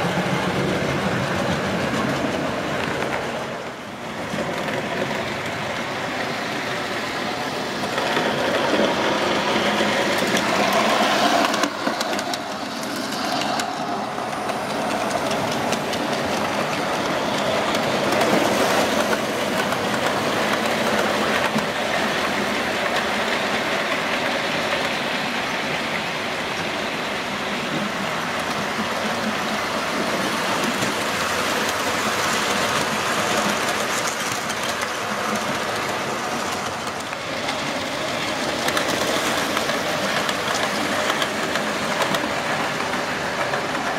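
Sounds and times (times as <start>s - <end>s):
model train rumbling on track: 0.0s - 43.9s
wheels clicking over rail joints: 4.3s - 25.4s, 27.6s - 43.9s.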